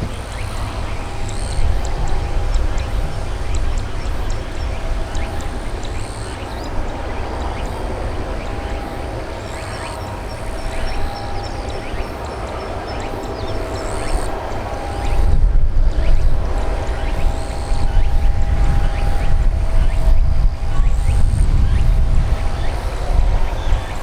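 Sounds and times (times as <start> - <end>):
distant jet engines whining: 0.0 - 24.0.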